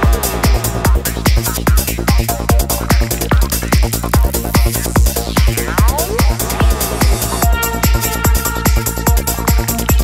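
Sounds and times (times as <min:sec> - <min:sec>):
trance music: 0:00.0 - 0:10.0.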